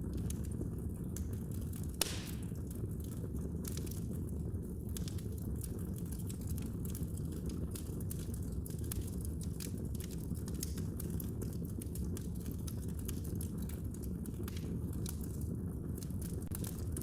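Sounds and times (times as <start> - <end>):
fire crackling in fireplace: 0.0 - 17.0.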